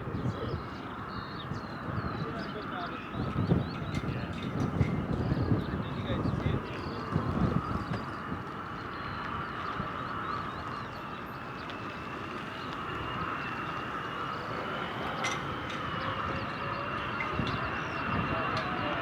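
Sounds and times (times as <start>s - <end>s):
distant jet engines: 0.0s - 19.0s.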